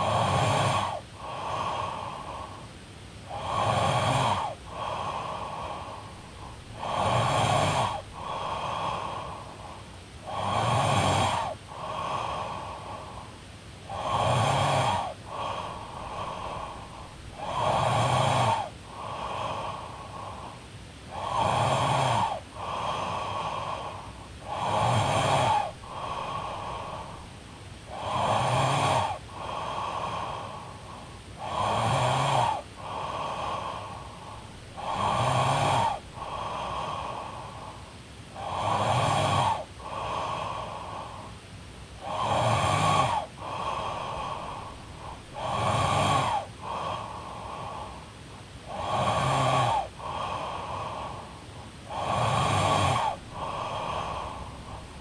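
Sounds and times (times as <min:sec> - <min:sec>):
woman snoring: 0:00.0 - 0:02.6, 0:03.3 - 0:13.2, 0:13.9 - 0:27.3, 0:27.9 - 0:37.8, 0:38.4 - 0:41.3, 0:42.0 - 0:55.0.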